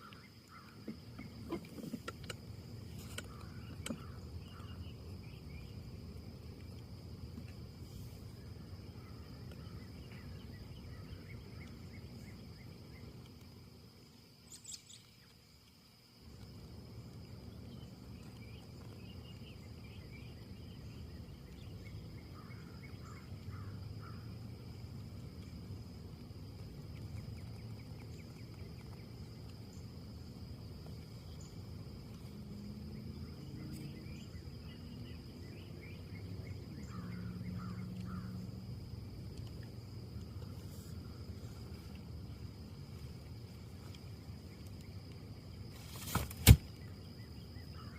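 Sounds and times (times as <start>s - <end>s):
high insect trill: 0.0s - 47.9s
small birds chirping: 0.0s - 47.9s.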